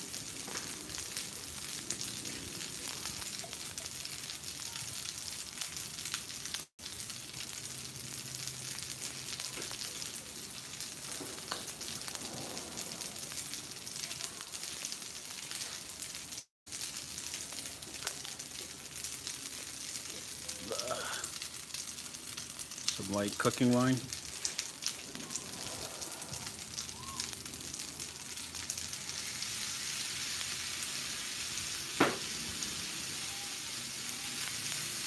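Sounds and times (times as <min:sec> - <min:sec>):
food sizzling on a griddle: 0:00.0 - 0:35.0.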